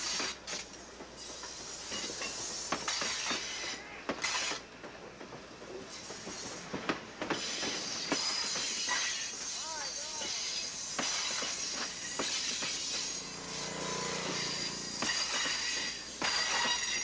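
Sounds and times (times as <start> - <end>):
steady hiss: 0.0 - 17.0
train wheels clicking over rail joints: 0.0 - 17.0.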